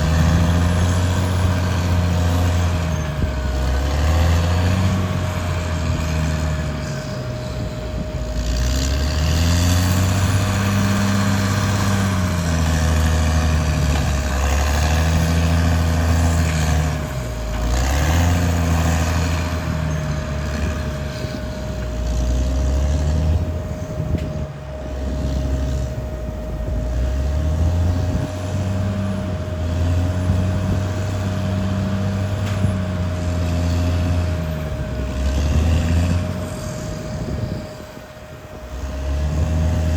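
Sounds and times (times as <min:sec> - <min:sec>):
bulldozer diesel engine: 0:00.0 - 0:39.9
steady whine: 0:00.0 - 0:39.9.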